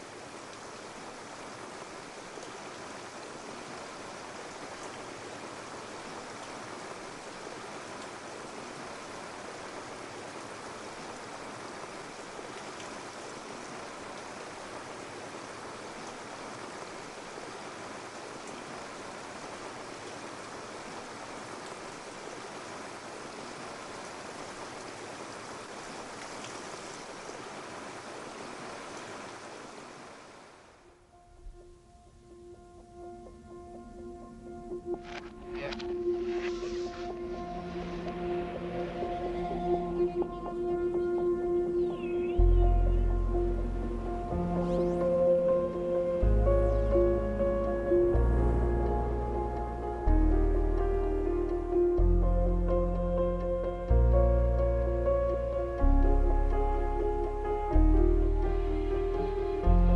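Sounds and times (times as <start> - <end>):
flowing water rushing: 0.0 - 31.0, 34.9 - 50.2, 56.7 - 59.9.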